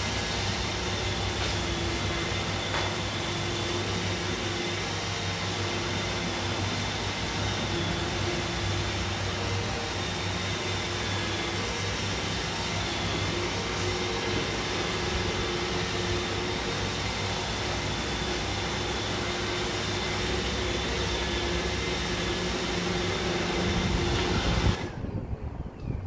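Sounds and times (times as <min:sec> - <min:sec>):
robot vacuum motor and brush: 0:00.0 - 0:25.2.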